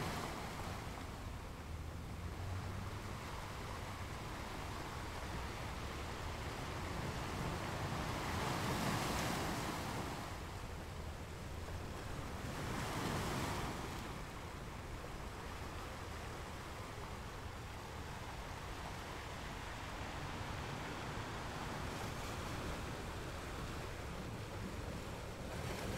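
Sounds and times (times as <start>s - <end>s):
ocean waves breaking: 0.0s - 25.9s.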